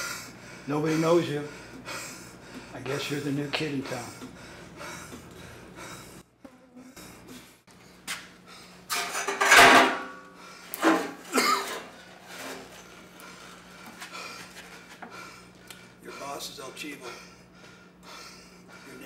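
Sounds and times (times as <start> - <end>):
man breathing heavily: 0.0 - 8.9, 10.3 - 10.9, 12.8 - 19.0.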